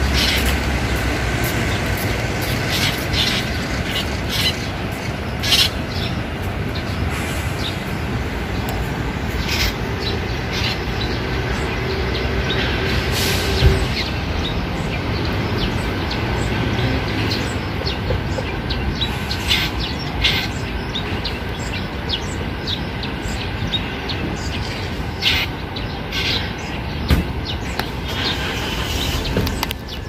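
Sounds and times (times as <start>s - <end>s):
steady background noise: 0.0s - 30.0s.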